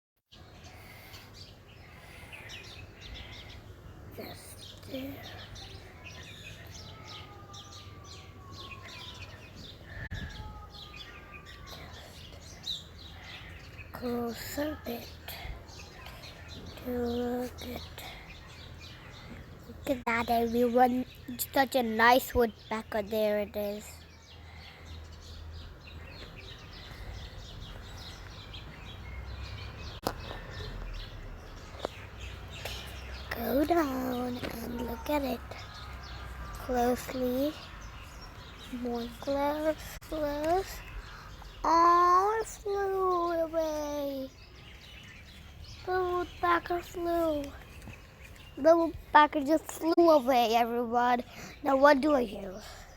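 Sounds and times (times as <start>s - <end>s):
small birds chirping: 0.3s - 52.9s.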